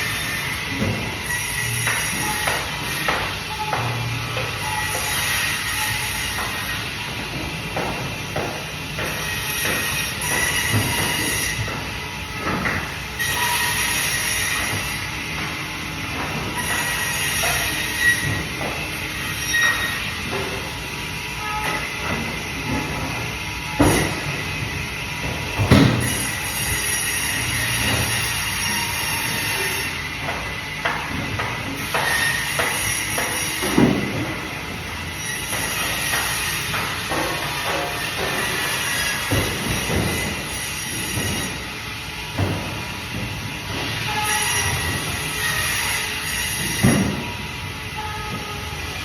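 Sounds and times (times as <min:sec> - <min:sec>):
bandsaw squealing cutting fish: 0:00.0 - 0:07.1, 0:09.0 - 0:15.3, 0:16.1 - 0:22.9, 0:25.7 - 0:30.1, 0:31.7 - 0:41.8, 0:43.7 - 0:48.6.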